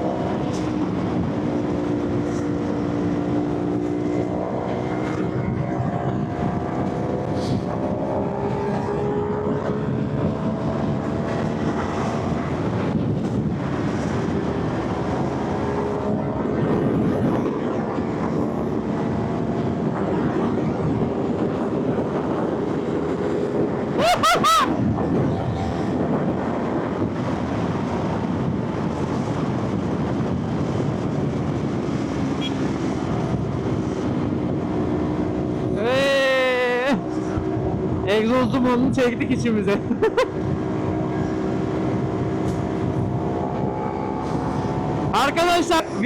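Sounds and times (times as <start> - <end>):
wind rushing over microphone: 0.0 - 46.0.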